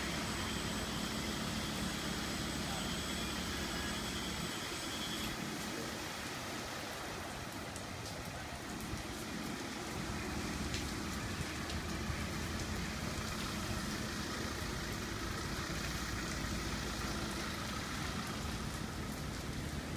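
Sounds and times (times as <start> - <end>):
water spraying and dripping: 0.0 - 19.9.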